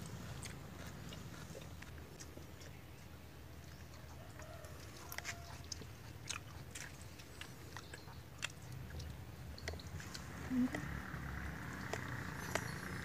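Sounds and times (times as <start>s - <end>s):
person chewing: 0.0s - 10.9s.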